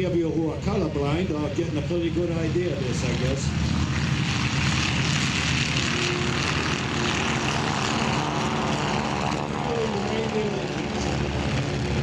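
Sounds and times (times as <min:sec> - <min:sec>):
biplane propeller drone: 0:00.0 - 0:12.0.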